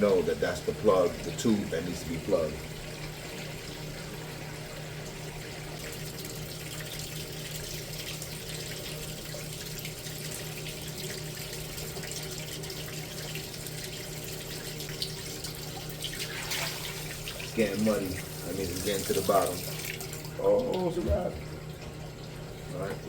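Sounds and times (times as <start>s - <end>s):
water running out of boiler: 0.0s - 23.0s.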